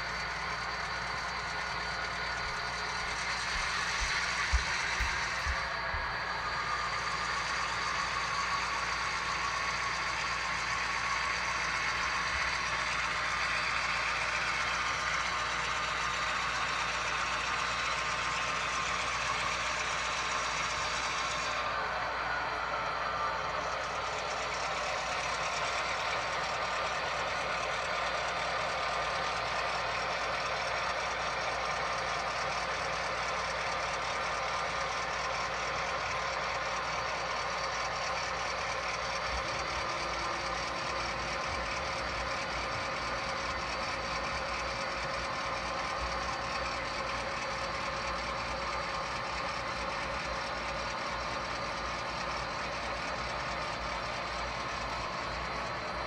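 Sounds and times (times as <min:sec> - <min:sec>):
model locomotive engine sound: 0:00.0 - 0:56.0.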